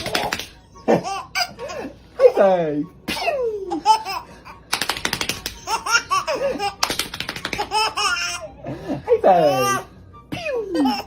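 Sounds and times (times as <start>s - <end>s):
baby laughing: 0.0s - 2.5s, 3.1s - 11.0s.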